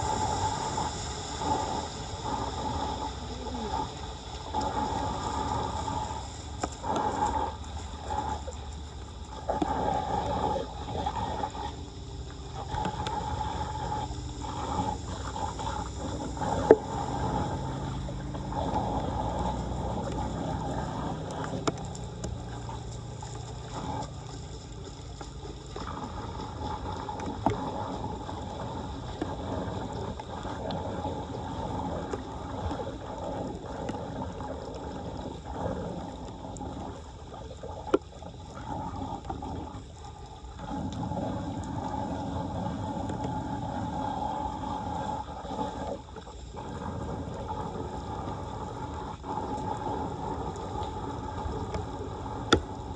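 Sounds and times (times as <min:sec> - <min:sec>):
floodwater rushing into a drain: 0:00.0 - 0:52.9.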